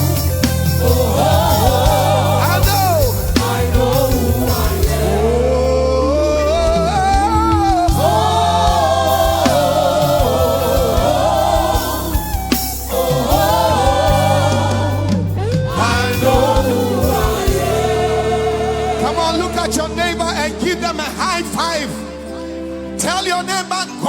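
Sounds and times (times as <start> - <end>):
bass and keyboard backing: 0.0 - 24.0
lead singer and choir singing: 0.0 - 24.0.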